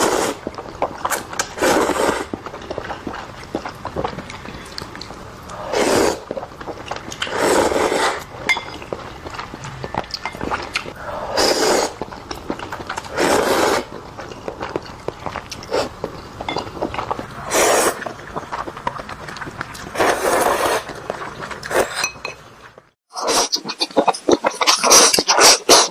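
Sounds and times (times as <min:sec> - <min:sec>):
slurping noodles: 0:00.0 - 0:08.3, 0:08.9 - 0:22.2, 0:23.1 - 0:25.9
wet chewing and mouth clicks: 0:00.1 - 0:05.6, 0:06.2 - 0:11.0, 0:11.8 - 0:22.2, 0:23.2 - 0:25.9.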